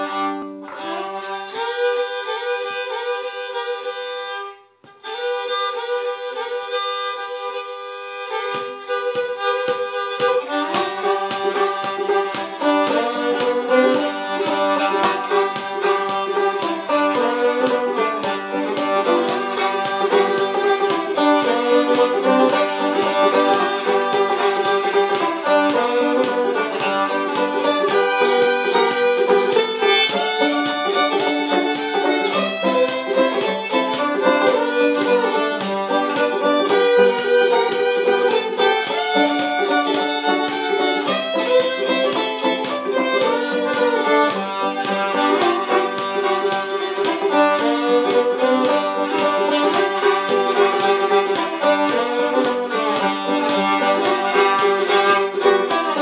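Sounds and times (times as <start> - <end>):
banjo plucked rhythm: 0.0 - 56.0
bowed fiddle melody: 0.0 - 56.0.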